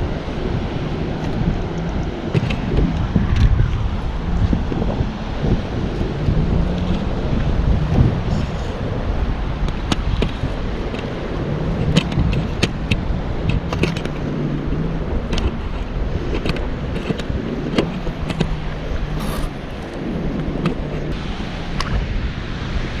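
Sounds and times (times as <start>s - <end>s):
surf and wind rush: 0.0s - 23.0s.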